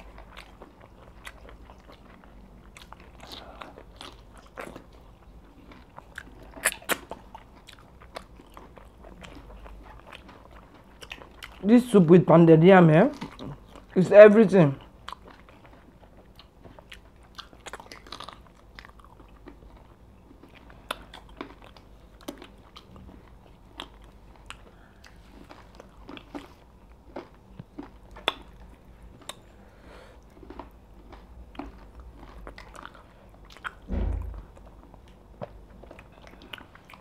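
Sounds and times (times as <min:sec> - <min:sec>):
chewing and lip smacks: 0:00.0 - 0:12.0, 0:13.1 - 0:14.0, 0:14.8 - 0:29.6, 0:30.2 - 0:33.9, 0:34.5 - 0:37.0.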